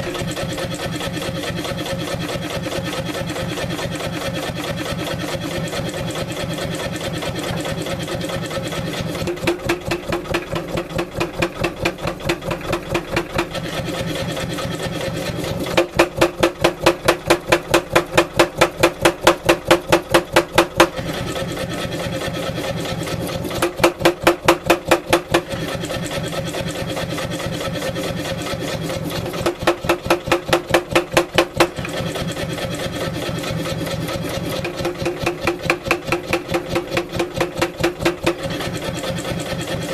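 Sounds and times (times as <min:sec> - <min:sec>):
power hammer motor running: 0:00.0 - 0:39.9.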